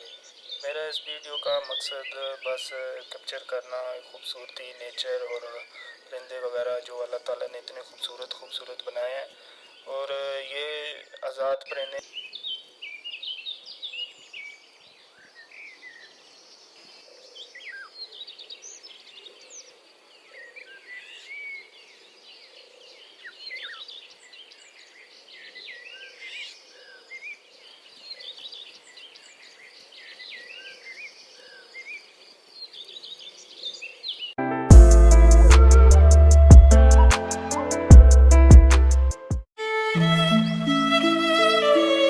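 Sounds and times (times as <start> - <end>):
small birds chirping: 0.0 - 34.4.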